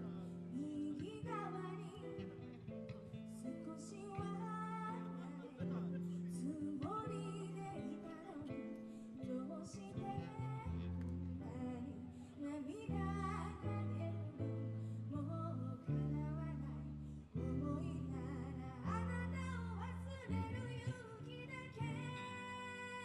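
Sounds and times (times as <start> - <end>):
guitar: 0.0 - 23.0
person singing: 3.3 - 23.0.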